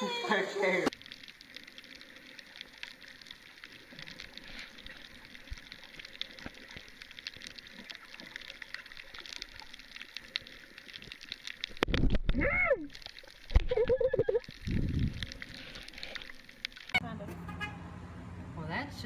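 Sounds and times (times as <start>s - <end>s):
faint underwater crackling: 0.9s - 17.0s.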